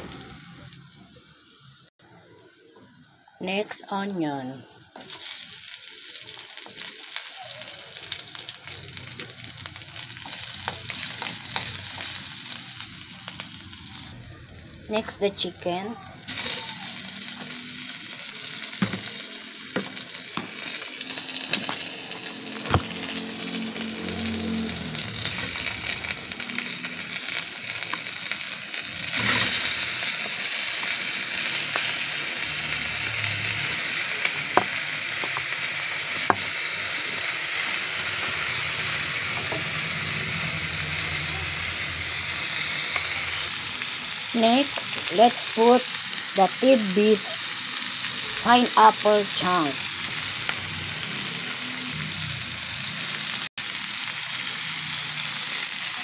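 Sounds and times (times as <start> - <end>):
chicken sizzling in a wok: 0.0 - 3.4, 5.0 - 56.0.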